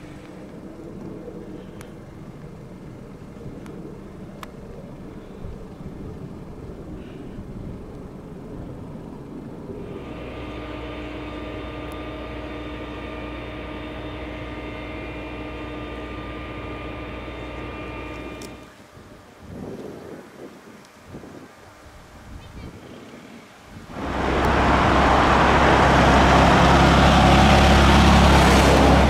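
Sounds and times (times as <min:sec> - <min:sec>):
diesel engine droning: 0:00.0 - 0:18.8, 0:23.8 - 0:29.0.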